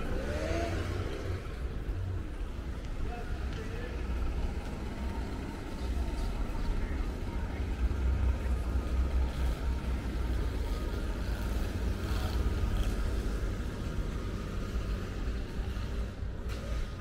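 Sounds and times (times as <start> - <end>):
city street rumble: 0.0 - 17.0.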